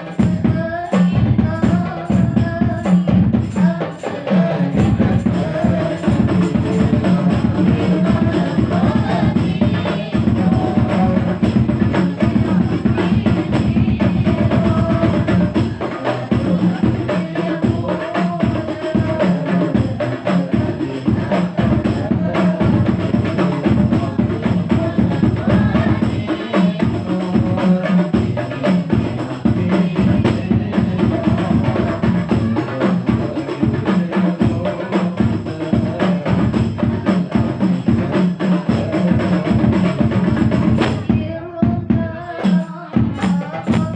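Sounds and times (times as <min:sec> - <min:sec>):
drums and percussion rhythm: 0:00.0 - 0:43.9.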